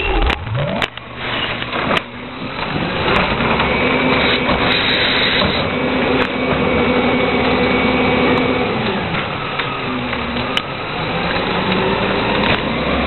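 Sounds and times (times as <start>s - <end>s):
garbage truck engine whining: 0.0s - 13.0s.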